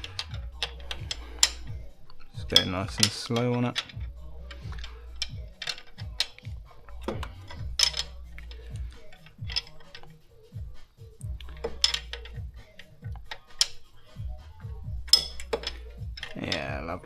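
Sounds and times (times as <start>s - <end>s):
metallic clicks of hand tools: 0.0s - 10.2s, 11.2s - 14.0s, 15.1s - 16.7s
music with deep bass: 0.0s - 17.0s.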